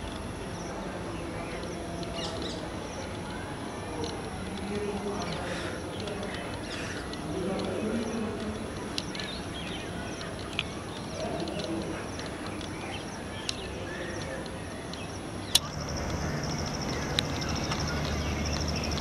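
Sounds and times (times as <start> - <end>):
small birds chirping: 0.0 - 19.0
sharp clicks: 1.5 - 19.0.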